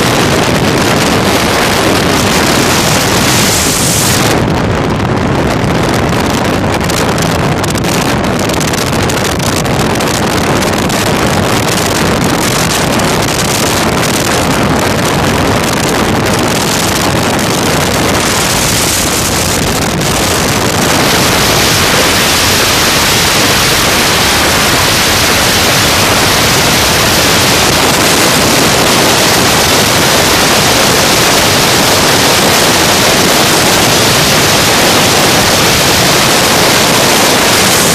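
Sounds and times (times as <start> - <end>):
water rushing: 0.0 - 5.8, 6.6 - 37.9
outboard motor running: 0.0 - 37.9
wind buffeting microphone: 0.0 - 37.9.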